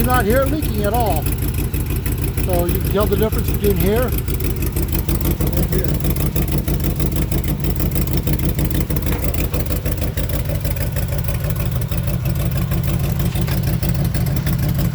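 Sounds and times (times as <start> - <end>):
engine idling with exhaust puffing: 0.0 - 14.9.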